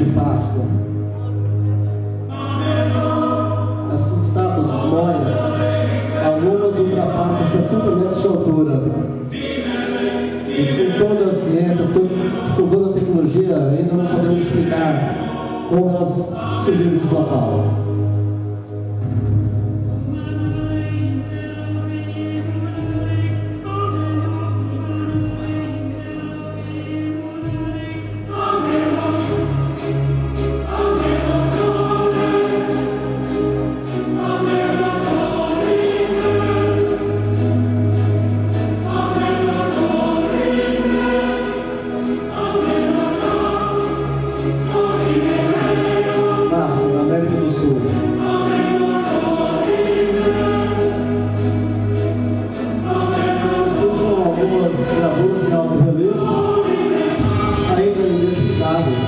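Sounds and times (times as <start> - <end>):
choir singing sustained chords: 0.0 - 59.0.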